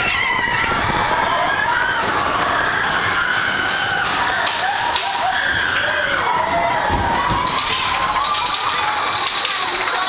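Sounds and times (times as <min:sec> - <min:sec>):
riders screaming: 0:00.0 - 0:10.0
roller coaster rumble: 0:00.0 - 0:10.0.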